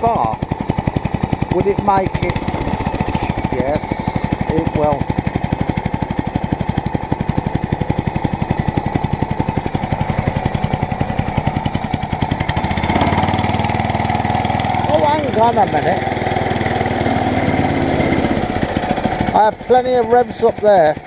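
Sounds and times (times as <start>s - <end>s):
lawnmower engine running and revving: 0.0s - 21.0s.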